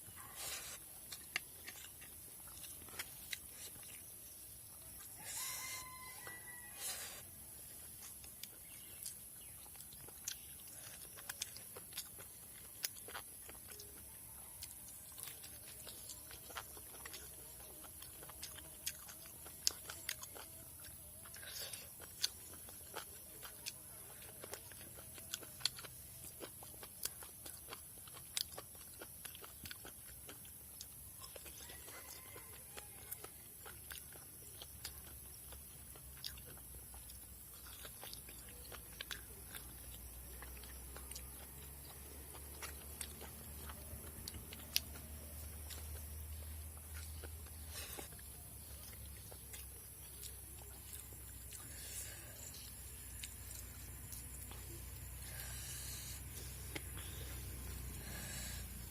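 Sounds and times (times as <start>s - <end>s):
person chewing: 0.0s - 58.9s.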